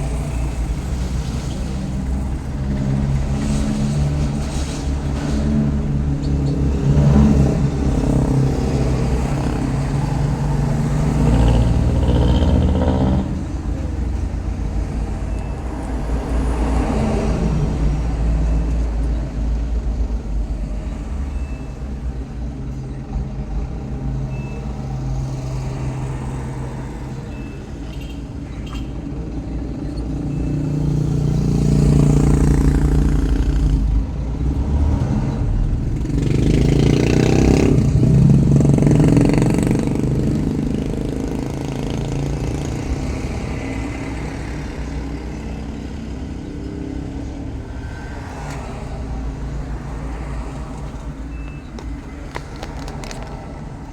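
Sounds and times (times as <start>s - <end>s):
road noise: 0.0s - 53.9s
vehicle engine rumble: 0.0s - 53.9s
vehicles passing: 0.0s - 53.9s.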